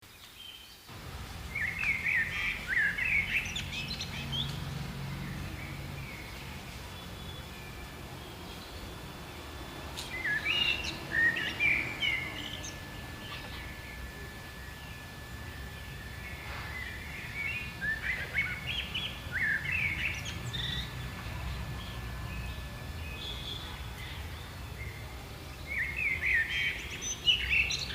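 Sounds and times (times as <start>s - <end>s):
birds chirping: 0.1s - 27.9s
faint high whine: 0.6s - 27.9s
steady low hum: 0.9s - 27.9s.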